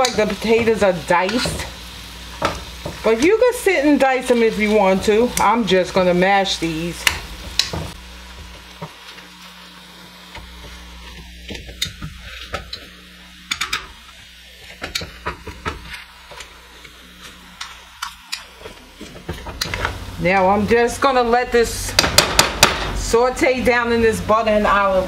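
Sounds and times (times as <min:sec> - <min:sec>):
butter sizzling: 0:00.0 - 0:25.0.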